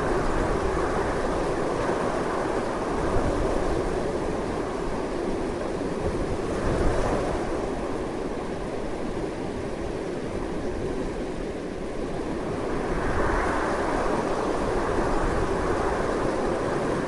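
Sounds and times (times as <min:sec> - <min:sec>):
strong gusty wind: 0:00.0 - 0:17.0.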